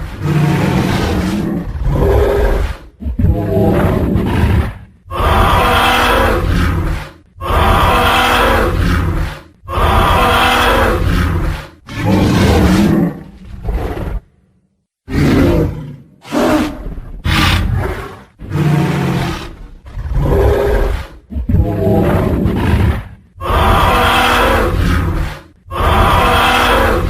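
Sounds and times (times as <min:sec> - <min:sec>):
deep dinosaur roars: 0:00.0 - 0:14.3, 0:15.1 - 0:27.0.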